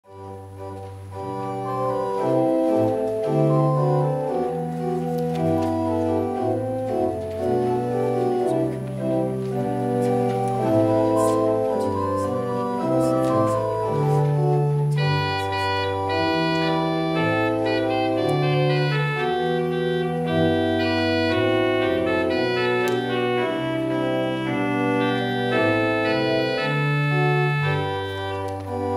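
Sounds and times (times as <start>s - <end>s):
organ music: 0.0s - 28.9s.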